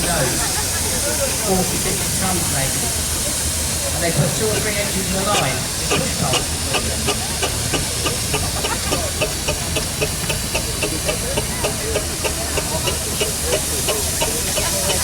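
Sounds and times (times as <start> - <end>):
low engine rumble: 0.0 - 15.0
steam hissing: 0.0 - 15.0.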